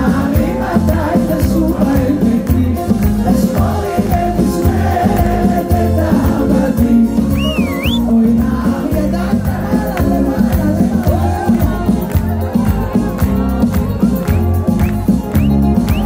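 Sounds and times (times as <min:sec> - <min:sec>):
live band music over pa: 0:00.0 - 0:16.0.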